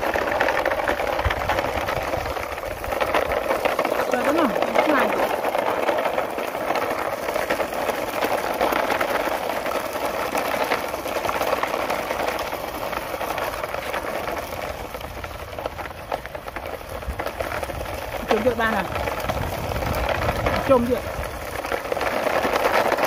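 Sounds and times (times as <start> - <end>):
toy car electric motor whirring: 0.0 - 23.0.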